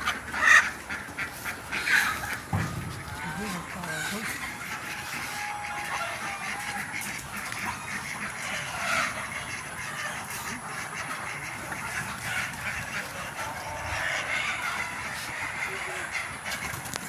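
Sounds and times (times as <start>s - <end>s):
poultry squawking: 0.0s - 17.0s.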